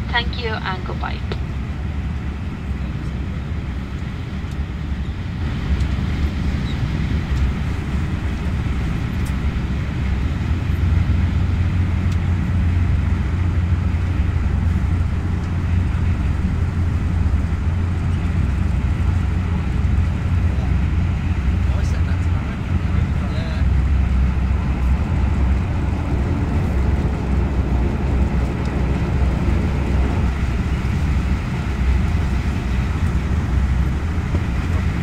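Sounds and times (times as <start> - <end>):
turboprop engines droning: 0.0 - 35.0.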